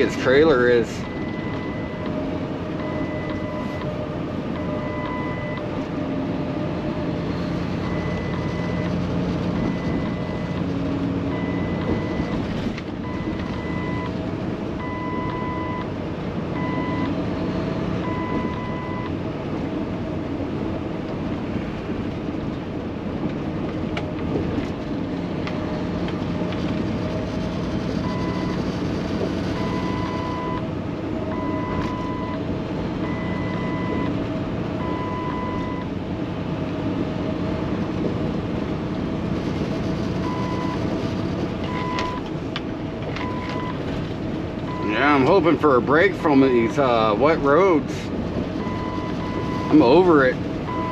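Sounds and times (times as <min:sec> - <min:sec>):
road noise: 0:00.0 - 0:50.9
truck diesel engine drone: 0:00.0 - 0:50.9.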